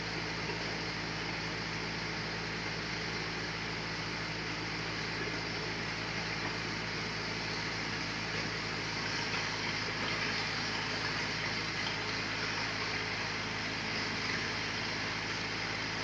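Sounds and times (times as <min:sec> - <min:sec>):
sawmill machinery running: 0:01.6 - 0:16.0.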